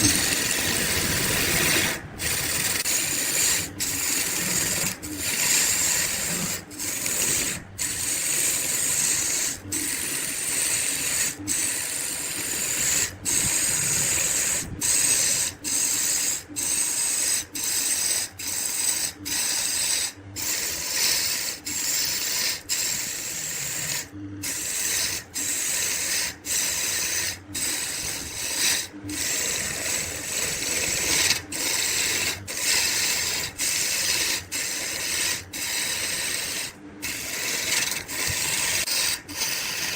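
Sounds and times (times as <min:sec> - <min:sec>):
wood lathe tool scraping wood: 0:00.0 - 0:39.9.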